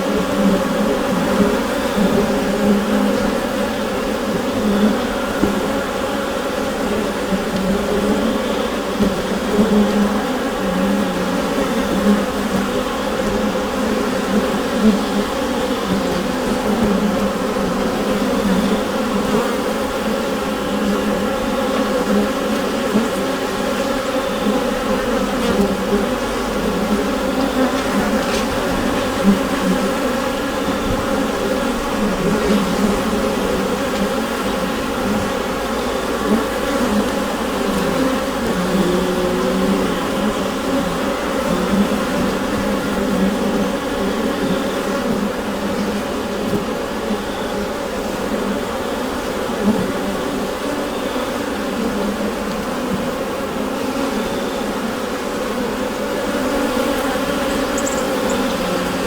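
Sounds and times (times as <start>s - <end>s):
honeybees buzzing in hive: 0.0s - 59.0s.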